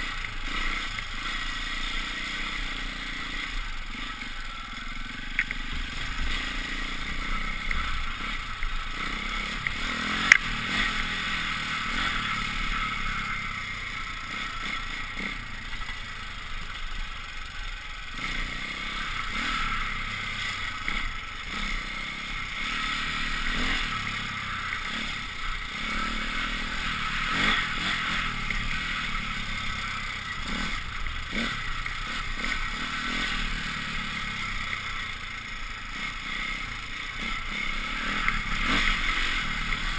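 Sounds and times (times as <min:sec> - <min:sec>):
off-road motorcycle running: 0:00.0 - 0:39.9.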